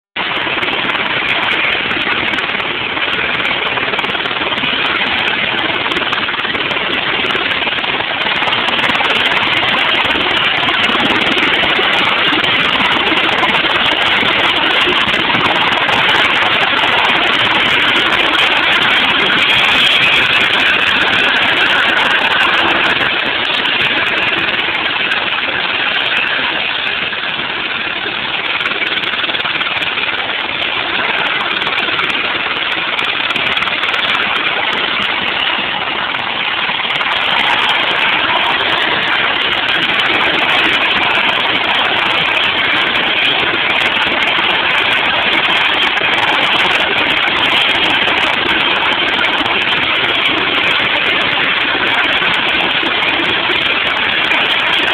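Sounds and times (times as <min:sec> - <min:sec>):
helicopter turbine and rotor: 0:00.2 - 0:54.9.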